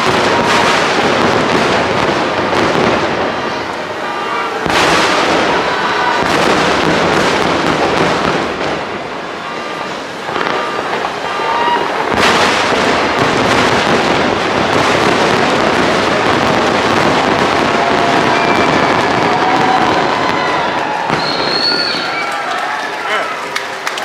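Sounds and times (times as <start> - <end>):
large firework burst: 0.0 - 22.9
fireworks bangs and crackling: 0.0 - 24.0.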